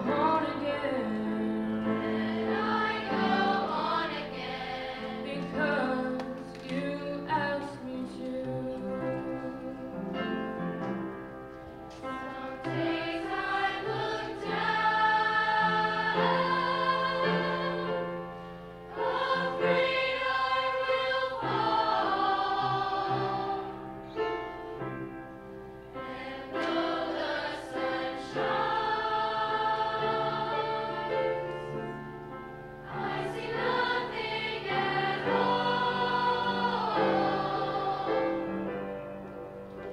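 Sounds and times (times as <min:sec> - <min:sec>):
youth choir singing: 0:00.0 - 0:10.0, 0:12.0 - 0:24.6, 0:25.9 - 0:39.0.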